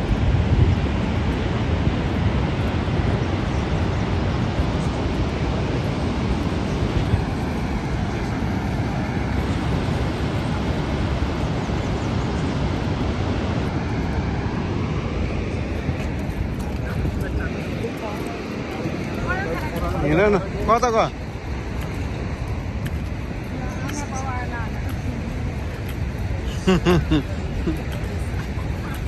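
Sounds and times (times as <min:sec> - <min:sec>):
churning river: 0:00.0 - 0:29.0
waterfall roar: 0:00.0 - 0:29.0.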